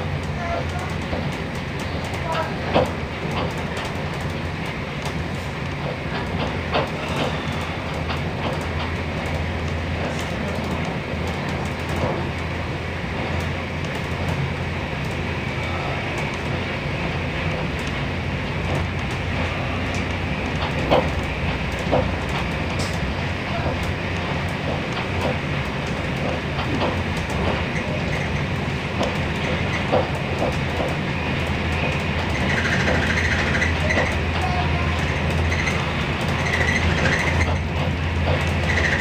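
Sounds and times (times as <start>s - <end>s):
train rumbling and rushing: 0.0s - 39.0s.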